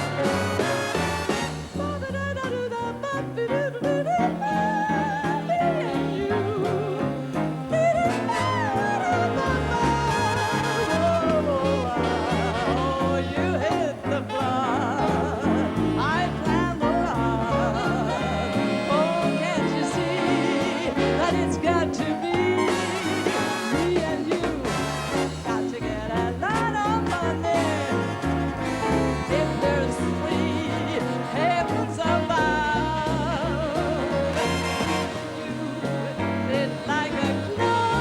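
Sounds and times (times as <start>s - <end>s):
swing band playing: 0.0s - 38.0s.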